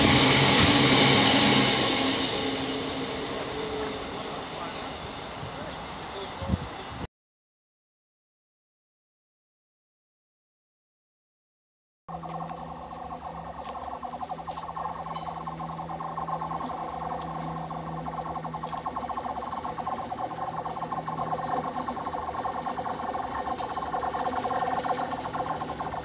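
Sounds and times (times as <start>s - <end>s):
distant diesel locomotives droning: 0.0s - 7.1s, 12.1s - 26.0s.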